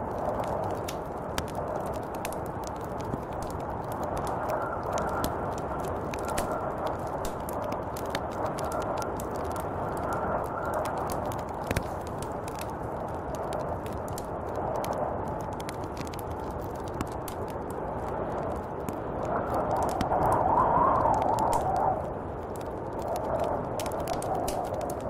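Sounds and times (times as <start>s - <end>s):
small sharp ticks and crackles: 0.0s - 25.0s
snowstorm wind blowing: 0.0s - 25.0s.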